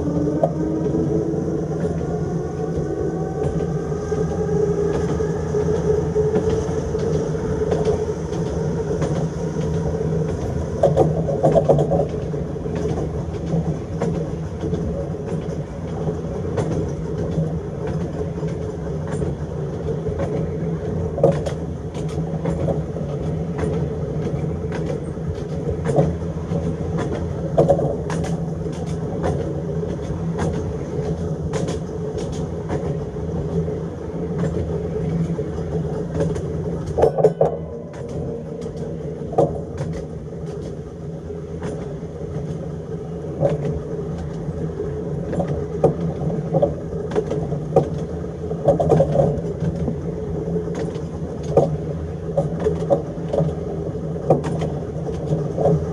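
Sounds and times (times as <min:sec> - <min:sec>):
tram motor humming: 0:00.0 - 0:55.9
wheels clicking on rails: 0:00.0 - 0:55.9.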